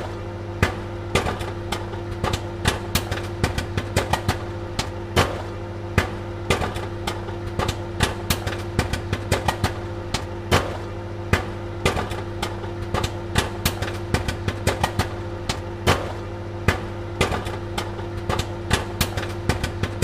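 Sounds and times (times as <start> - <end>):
popcorn popping: 0.0 - 20.0
steady low hum: 0.0 - 20.0.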